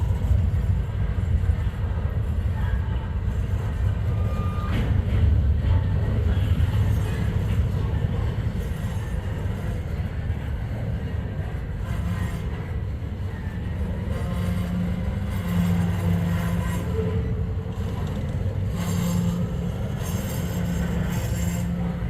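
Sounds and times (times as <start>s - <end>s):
freight train rumbling: 0.0s - 22.0s
rail noise: 0.0s - 22.0s.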